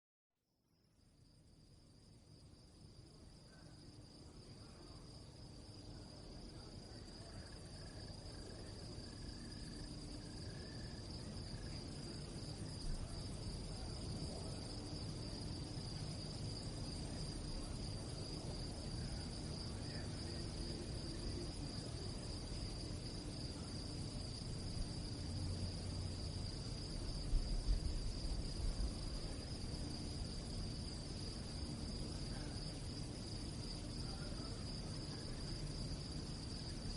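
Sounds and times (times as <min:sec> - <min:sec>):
crickets chirping: 0:00.7 - 0:36.9
low background rumble: 0:02.3 - 0:36.9.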